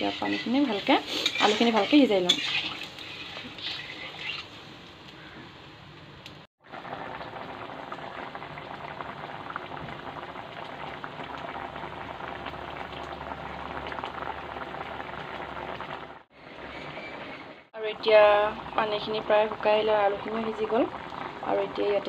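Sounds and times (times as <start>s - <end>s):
water boiling with popping bubbles: 0.0s - 16.3s, 18.0s - 22.0s.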